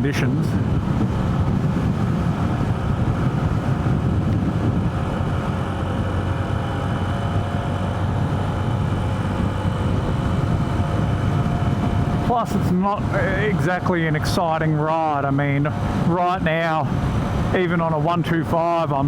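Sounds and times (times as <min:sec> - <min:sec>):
wind buffeting microphone: 0:00.0 - 0:19.0
motorcycle engine cruising: 0:00.6 - 0:17.6.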